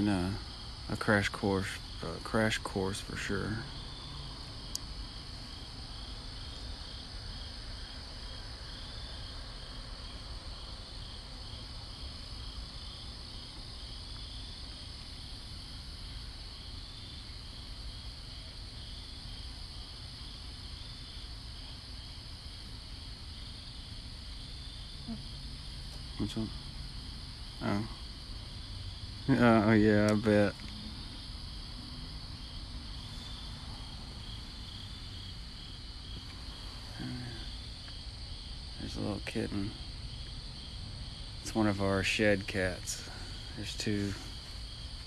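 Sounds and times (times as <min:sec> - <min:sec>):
crickets chirping: 0:00.0 - 0:45.0
low steady rumble: 0:00.0 - 0:45.0.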